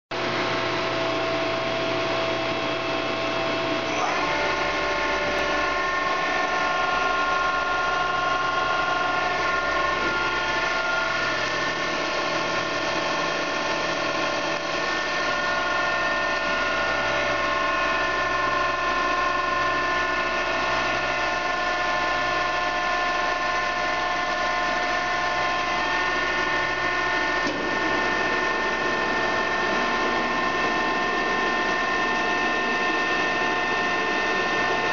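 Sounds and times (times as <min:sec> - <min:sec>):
drill machine whine: 0:00.2 - 0:34.9.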